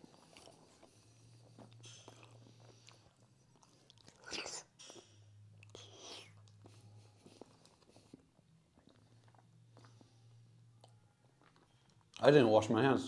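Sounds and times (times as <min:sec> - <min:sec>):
person chewing with wet clicks: 0:00.0 - 0:12.3
low steady hum: 0:00.0 - 0:13.0.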